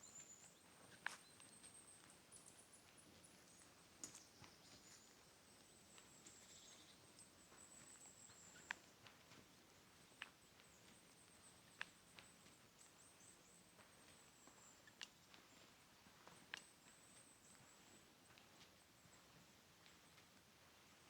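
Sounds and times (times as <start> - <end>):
footsteps on woodland path: 0.1 - 21.0.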